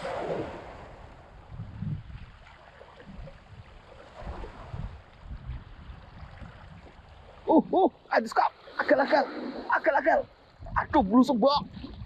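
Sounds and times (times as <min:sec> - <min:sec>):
wind buffeting microphone: 0:00.0 - 0:07.9, 0:08.9 - 0:12.0
small waves washing: 0:00.0 - 0:12.0.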